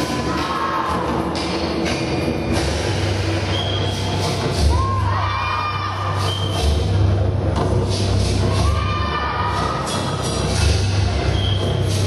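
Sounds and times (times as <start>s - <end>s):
music with deep bass line: 0.0s - 12.0s.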